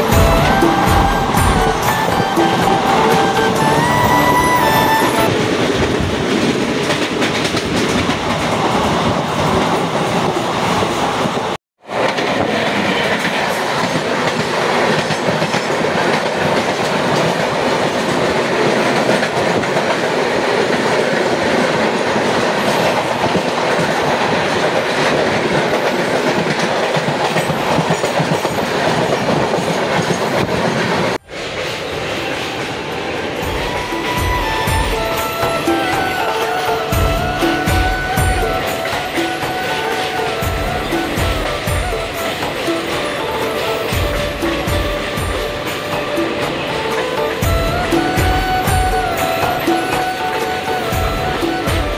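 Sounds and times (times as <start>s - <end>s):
clickety-clack of rail joints: 0.0s - 51.9s
passing train coaches: 0.0s - 51.9s
train wheels rushing on rails: 0.0s - 51.9s.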